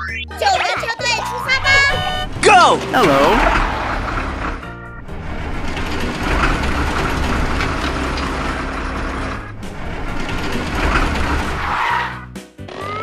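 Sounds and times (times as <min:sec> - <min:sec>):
cartoon truck engines running: 0:00.0 - 0:13.0.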